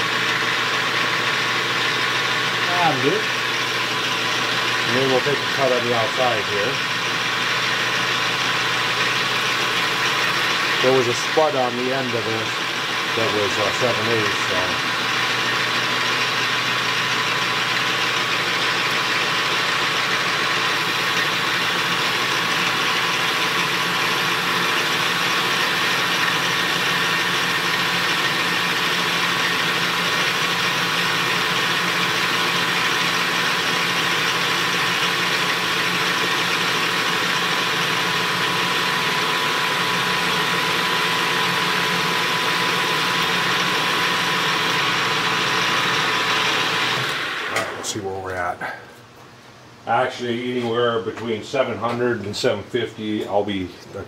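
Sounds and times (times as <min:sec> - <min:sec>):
metal lathe humming: 0:00.0 - 0:48.0.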